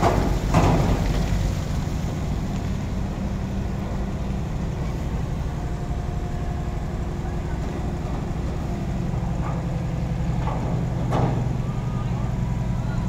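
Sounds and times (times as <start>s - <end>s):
diesel engines humming: 0.0s - 13.0s.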